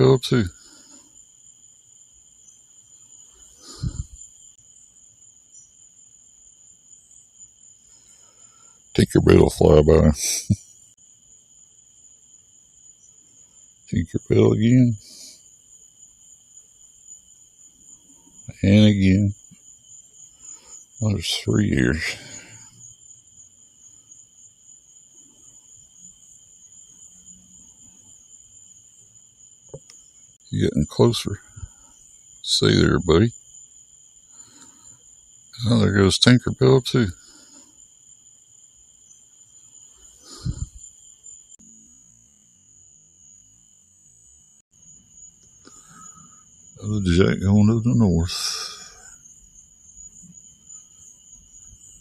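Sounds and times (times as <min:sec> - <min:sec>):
crickets chirring: 0:00.0 - 0:52.0.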